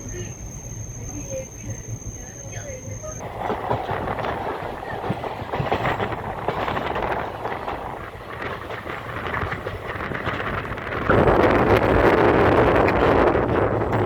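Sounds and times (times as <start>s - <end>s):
train wheels clattering: 0.0s - 14.0s.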